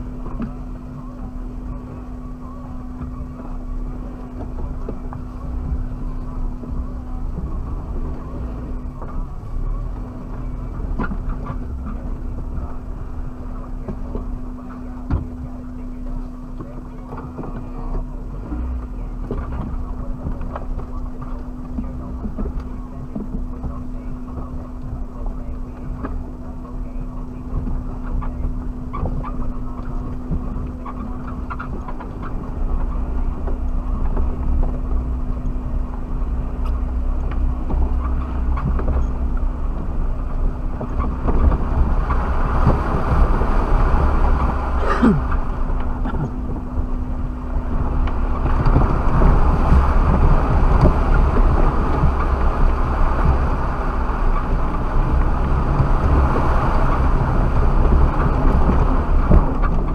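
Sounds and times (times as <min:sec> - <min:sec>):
engine and tyre rumble: 0:00.0 - 0:59.9
steady hum: 0:00.0 - 0:59.9.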